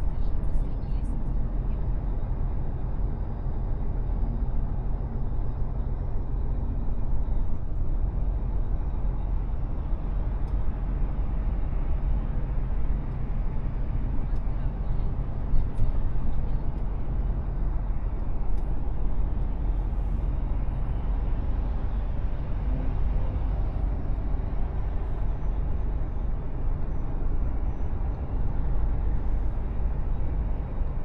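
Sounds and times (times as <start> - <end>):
road noise: 0.0 - 31.0
truck diesel engine rumble: 0.0 - 31.0.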